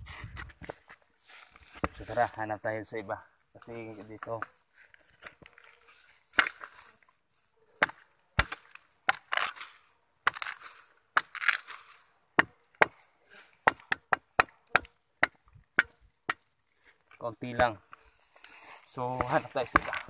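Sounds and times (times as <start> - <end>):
crackling rustles: 0.0 - 2.5, 3.2 - 12.2, 14.9 - 20.0.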